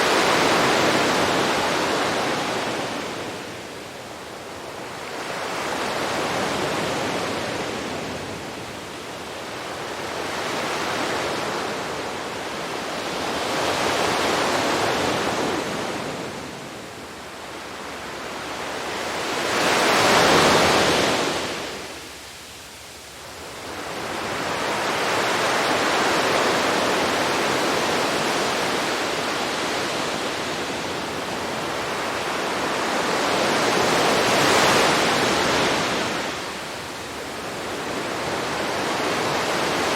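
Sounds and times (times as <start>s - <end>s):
sea waves washing onto beach: 0.0s - 22.4s, 23.0s - 39.9s.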